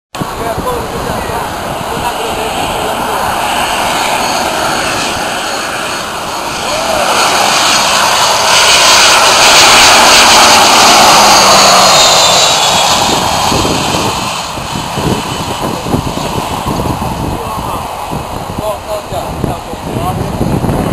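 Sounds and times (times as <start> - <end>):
high jet whine: 0.2 - 20.9
jet passing overhead: 0.2 - 20.9.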